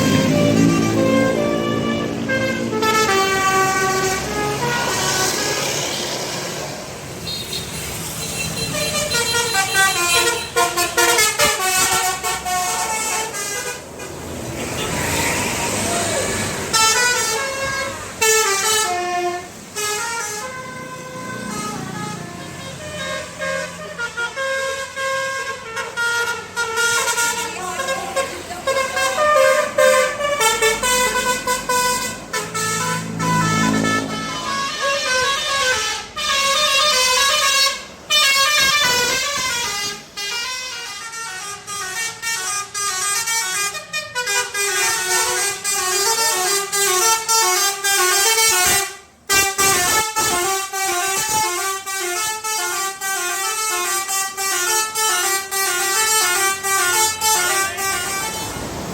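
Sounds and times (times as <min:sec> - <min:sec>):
multi-tone bus air horn: 0:00.0 - 0:06.5, 0:07.2 - 0:58.9
low rumble of bus engine: 0:00.0 - 0:58.9.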